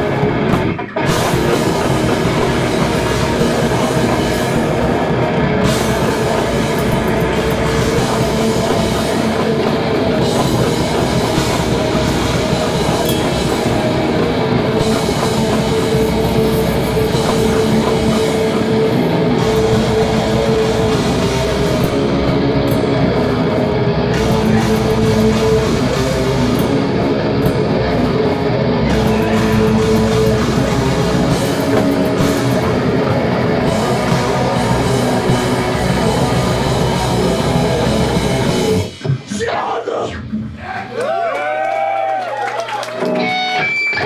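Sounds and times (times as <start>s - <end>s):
heavy metal band playing: 0.0s - 40.2s, 42.9s - 44.0s.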